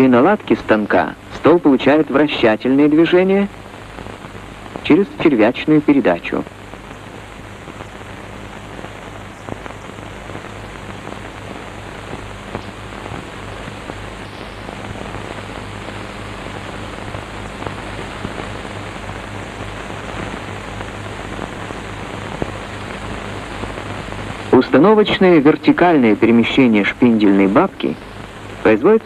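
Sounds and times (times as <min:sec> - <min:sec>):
film soundtrack hiss: 0:00.0 - 0:29.0.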